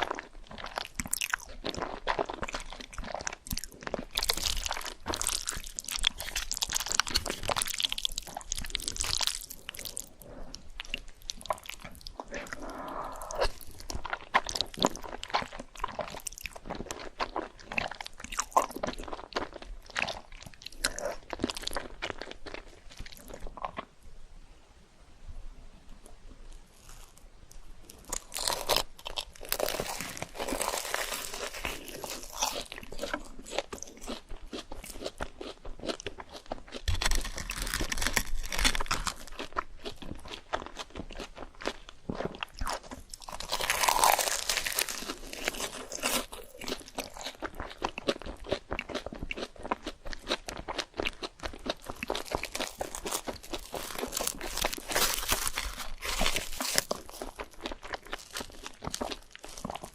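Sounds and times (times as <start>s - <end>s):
crunchy food chewing: 0.0s - 23.9s, 26.7s - 59.9s.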